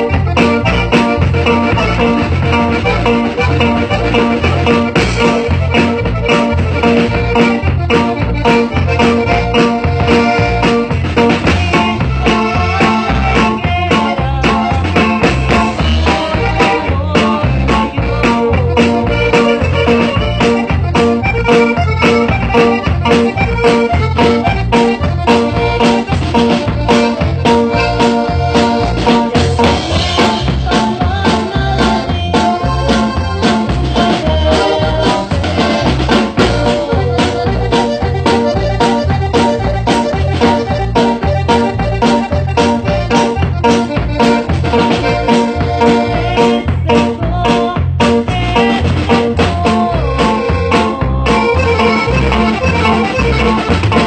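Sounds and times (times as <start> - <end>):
drum kit beat: 0.0 - 54.0
upbeat live band: 0.0 - 54.0.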